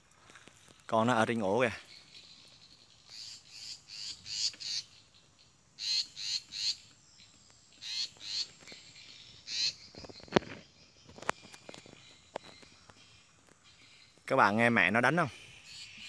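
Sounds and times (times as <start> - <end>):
birds harsh alarm calls: 1.0 - 16.0.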